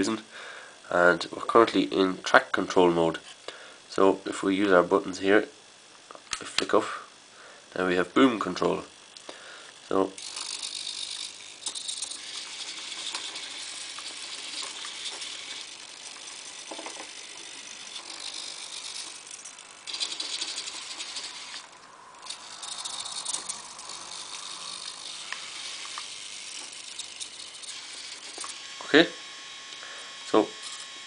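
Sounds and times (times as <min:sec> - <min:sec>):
small electric motors buzzing: 0:05.2 - 0:31.0.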